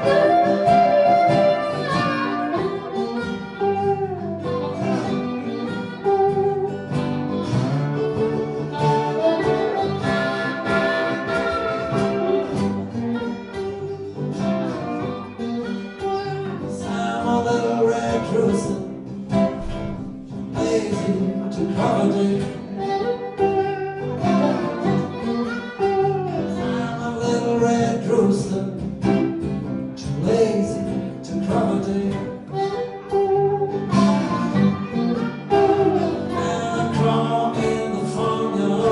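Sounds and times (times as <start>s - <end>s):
guitars strumming and picking: 0.0s - 38.9s
harmonica playing: 0.0s - 38.9s.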